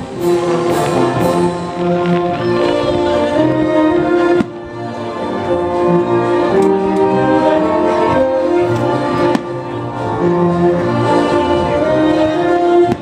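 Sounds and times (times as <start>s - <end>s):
orchestra playing held chords: 0.0s - 13.0s.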